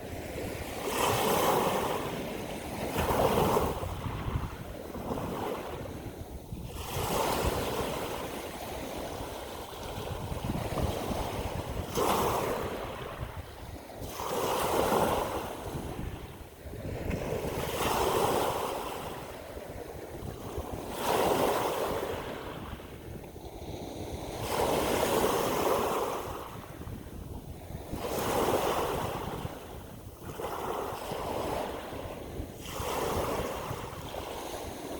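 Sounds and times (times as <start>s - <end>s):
ocean waves breaking: 0.0s - 34.9s.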